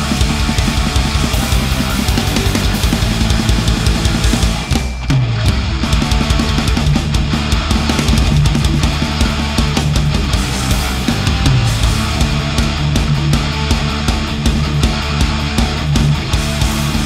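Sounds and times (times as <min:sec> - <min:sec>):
heavy rock band playing: 0:00.0 - 0:17.0
clicky kick drum: 0:00.1 - 0:17.0.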